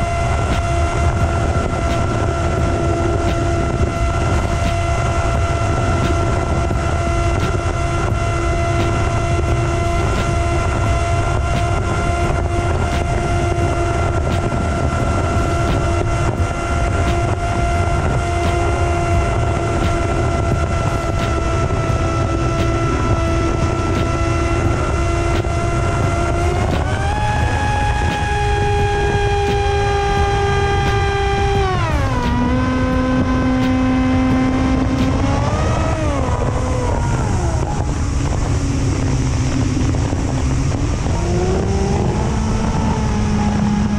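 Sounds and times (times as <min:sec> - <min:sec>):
drone motor whining: 0:00.0 - 0:43.9
wind rushing over microphone: 0:00.0 - 0:43.9.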